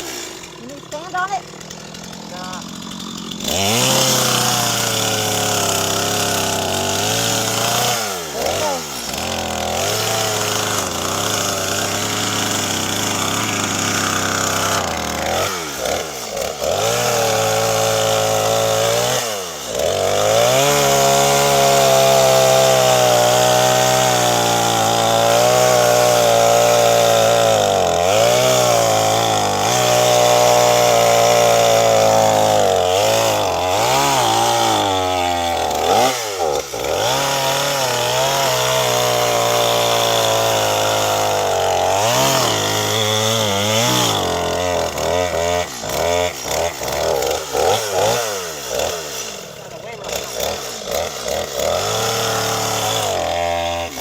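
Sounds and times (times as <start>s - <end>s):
chainsaw running at high revs: 0.0s - 54.0s.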